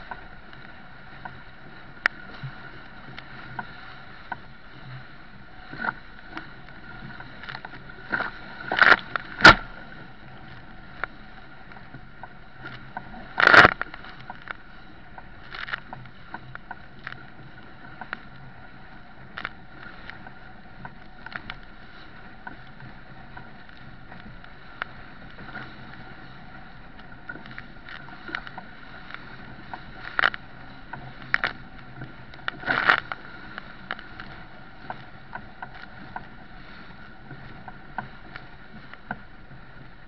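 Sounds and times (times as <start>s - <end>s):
water and wind rushing past hull: 0.0s - 40.0s
waves slapping against boat: 0.0s - 40.0s.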